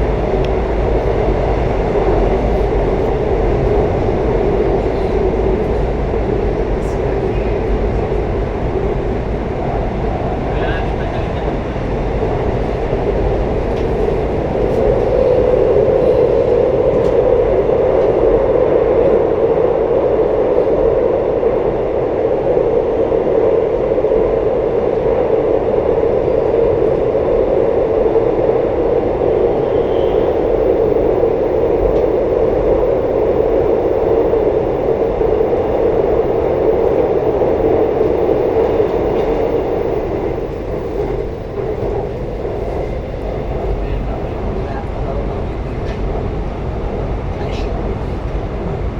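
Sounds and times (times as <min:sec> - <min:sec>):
train running: 0:00.0 - 0:48.9.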